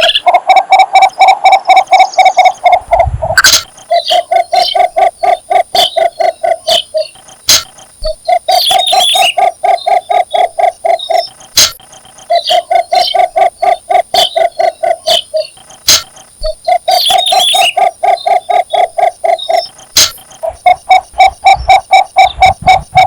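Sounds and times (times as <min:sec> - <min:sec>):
sharp clicks: 0:02.0 - 0:23.0.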